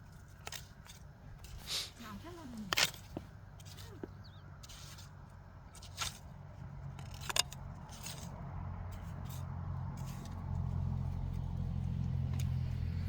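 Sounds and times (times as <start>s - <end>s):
hand hoes scraping soil: 0.0s - 12.8s
vehicle engine hum: 0.0s - 13.0s.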